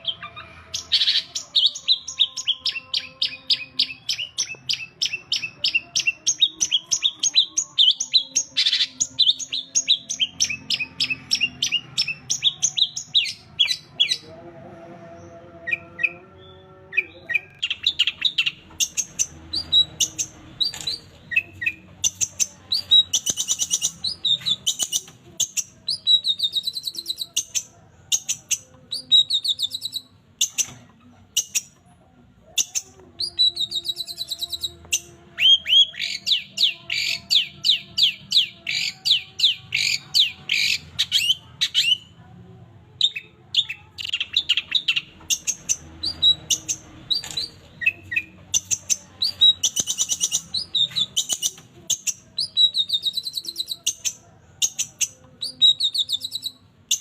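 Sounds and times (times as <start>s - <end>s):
songbird chirping song: 0.0s - 57.0s.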